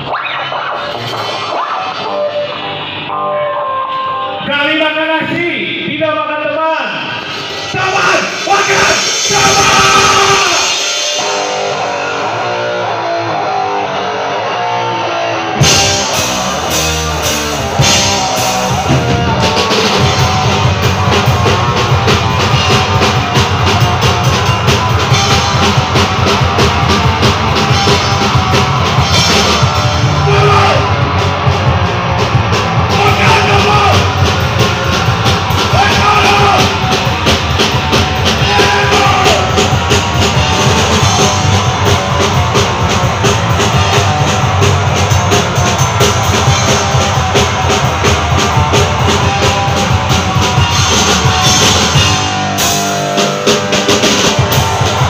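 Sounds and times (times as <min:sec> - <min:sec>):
electric guitar: 0:00.0 - 0:55.0
punk rock band playing: 0:00.0 - 0:55.0.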